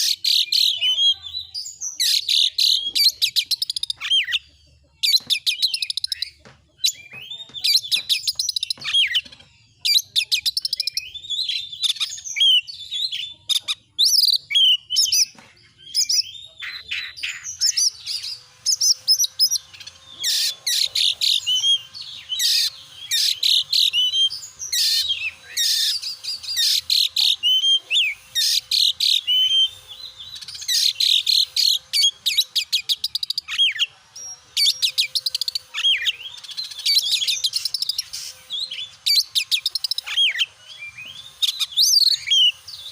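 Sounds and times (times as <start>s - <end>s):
bird singing whistles and trills: 5.0s - 42.9s.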